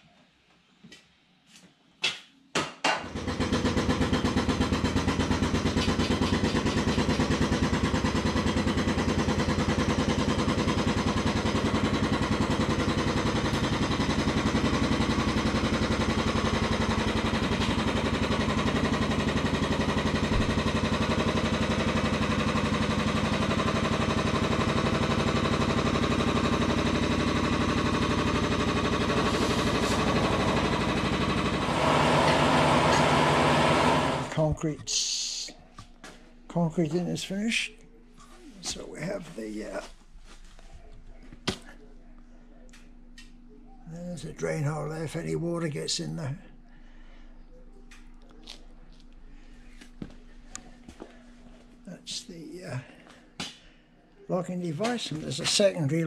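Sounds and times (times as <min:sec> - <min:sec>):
lift motor running: 0:03.0 - 0:56.0.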